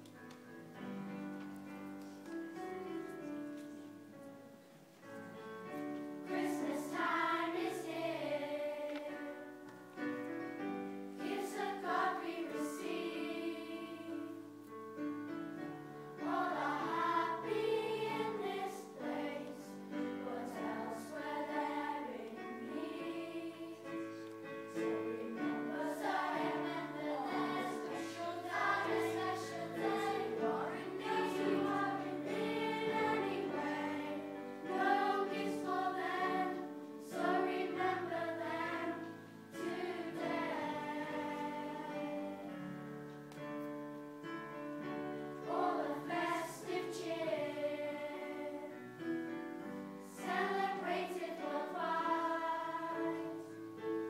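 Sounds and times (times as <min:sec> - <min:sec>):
children's choir singing: 0:05.1 - 0:42.8, 0:44.2 - 0:54.0.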